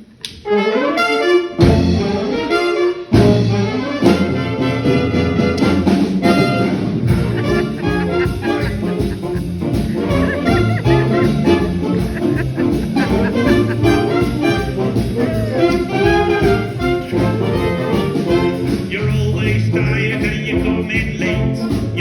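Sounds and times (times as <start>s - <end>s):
jazz band with brass: 0.4s - 22.0s.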